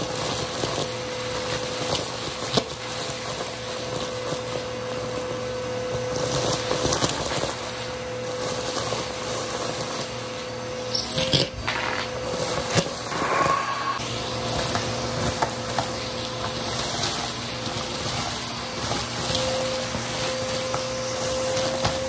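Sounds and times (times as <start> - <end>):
debris crackling up vacuum wand: 0.0 - 22.0
vacuum cleaner running: 0.0 - 22.0.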